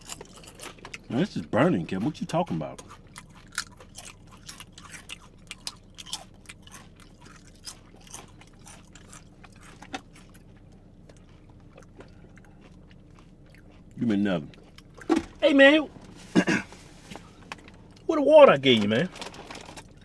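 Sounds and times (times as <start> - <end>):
tortilla chip crunching: 0.0 - 1.1, 2.0 - 15.2, 17.5 - 20.0.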